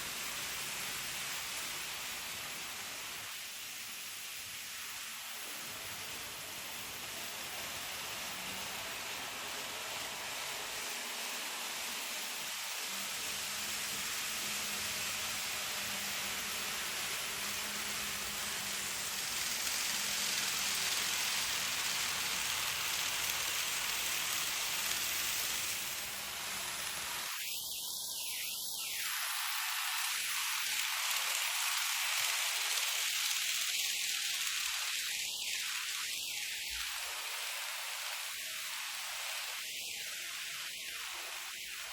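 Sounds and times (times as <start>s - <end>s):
model train wheels hissing on rails: 0.0s - 41.9s.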